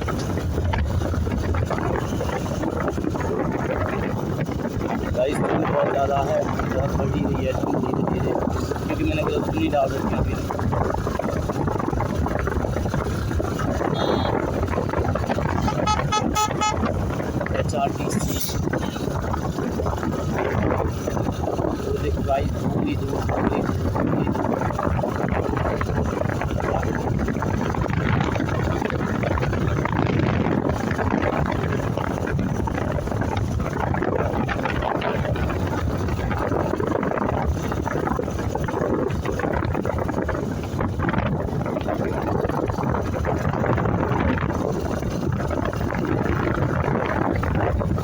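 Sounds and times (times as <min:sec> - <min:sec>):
motorcycle engine: 0:00.0 - 0:05.2, 0:08.0 - 0:48.0
road noise: 0:00.0 - 0:48.0
wind noise on microphone: 0:00.0 - 0:48.0.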